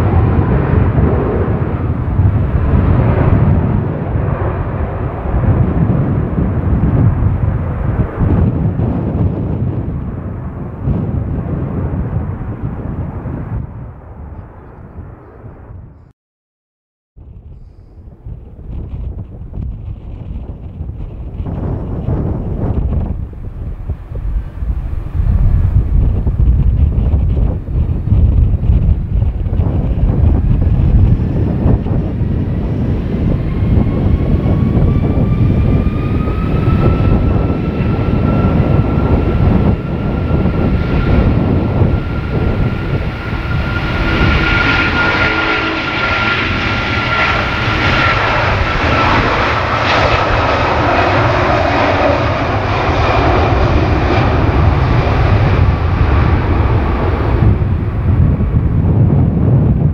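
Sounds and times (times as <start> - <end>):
jet engines whining on takeoff: 0.0 - 16.0, 17.3 - 59.9
low rumble of wind on microphone: 0.0 - 16.1, 17.2 - 59.9.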